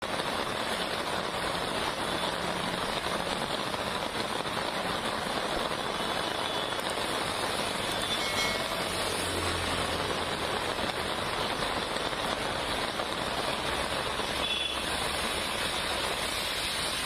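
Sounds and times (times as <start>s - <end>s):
water rushing on flooded street: 0.0s - 17.0s.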